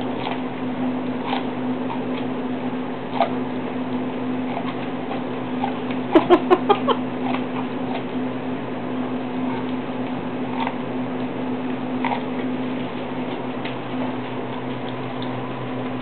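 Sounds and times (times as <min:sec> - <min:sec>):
dog crunching corn: 0:00.0 - 0:16.0
steady low hum: 0:00.0 - 0:16.0.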